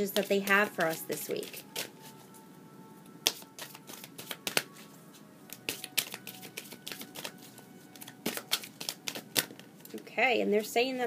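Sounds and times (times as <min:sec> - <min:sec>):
cards being shuffled: 0:00.1 - 0:02.3, 0:03.2 - 0:10.0.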